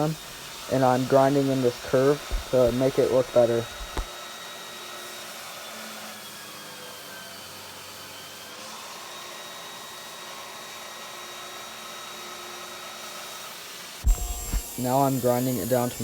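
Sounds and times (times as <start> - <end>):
grinder grinding wood: 0.0 - 16.0.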